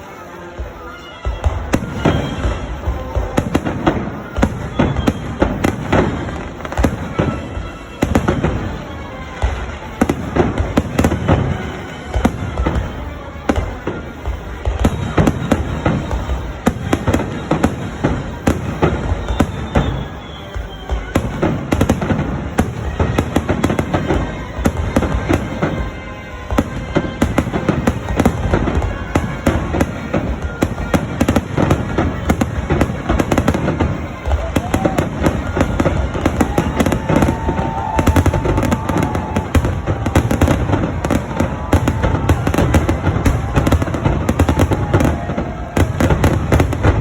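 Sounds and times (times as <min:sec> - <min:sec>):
fireworks booming and crackling: 0:00.0 - 0:47.0.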